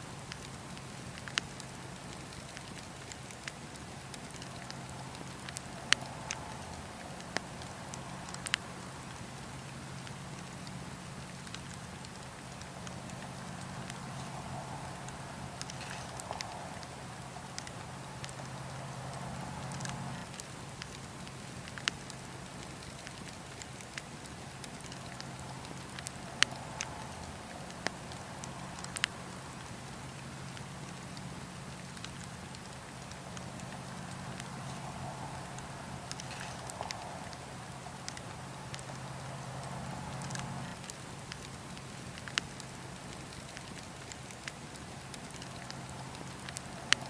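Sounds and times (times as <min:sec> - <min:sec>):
campfire popping and snapping: 0:00.0 - 0:47.0
low burning fire background: 0:00.0 - 0:47.0
soft hiss: 0:00.0 - 0:47.0.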